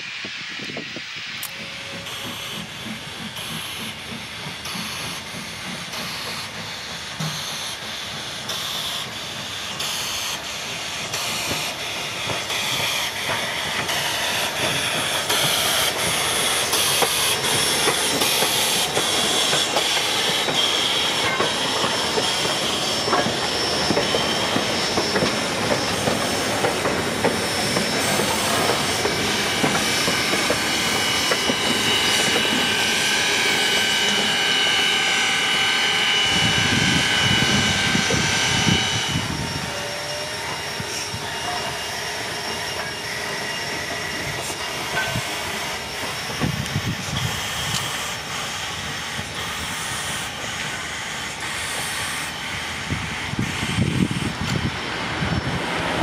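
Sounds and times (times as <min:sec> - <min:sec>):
hissing steam: 0:00.0 - 0:56.0
steam train exhaust chuffs: 0:00.0 - 0:56.0
train rumble: 0:00.0 - 0:56.0.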